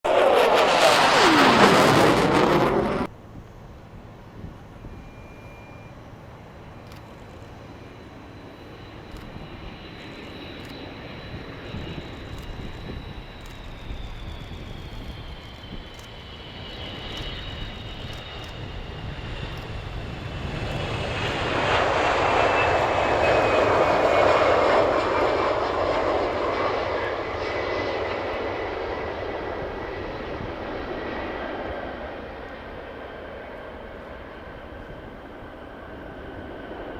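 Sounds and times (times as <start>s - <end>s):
jet passing by: 0.0s - 36.9s.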